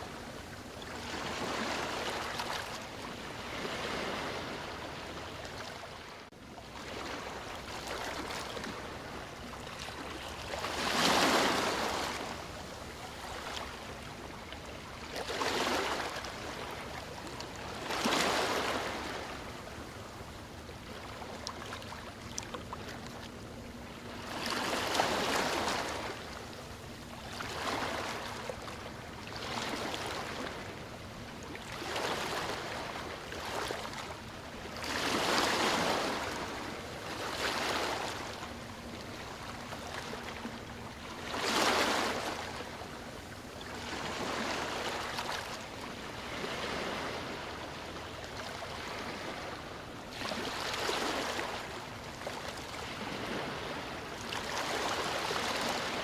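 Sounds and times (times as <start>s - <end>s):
sea waves breaking: 0.0s - 56.0s.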